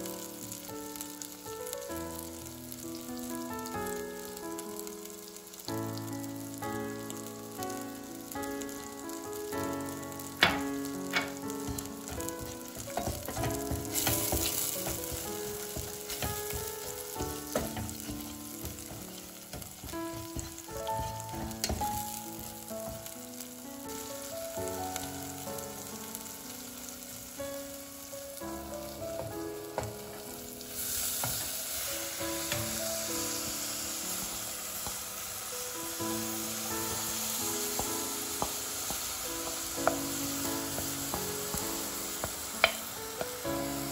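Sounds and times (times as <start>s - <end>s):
paste sizzling in a pot: 0.0s - 43.9s.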